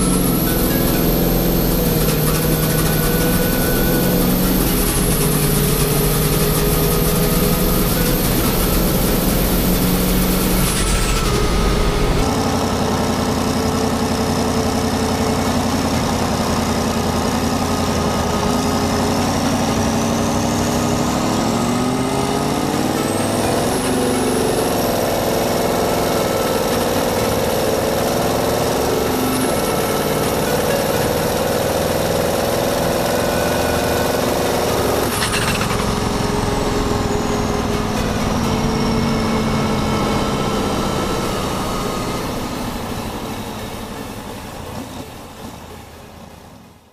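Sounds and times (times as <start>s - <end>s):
high turbo whine: 0.0s - 46.0s
diesel truck engine accelerating: 0.0s - 46.9s.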